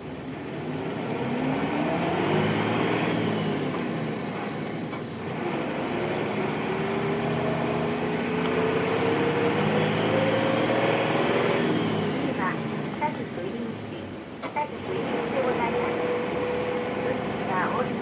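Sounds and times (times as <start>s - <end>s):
bus diesel engine accelerating: 0.0s - 18.0s.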